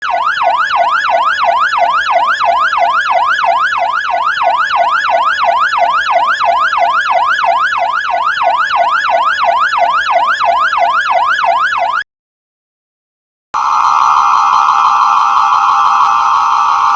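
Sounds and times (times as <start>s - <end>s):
fire truck siren yelping: 0.0s - 12.0s, 13.6s - 16.9s.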